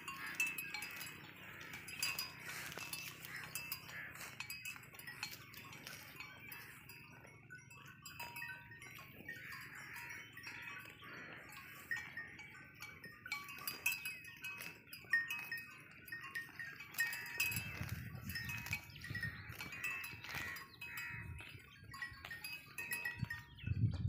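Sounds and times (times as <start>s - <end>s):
cattle bells clinking: 0.0s - 24.0s.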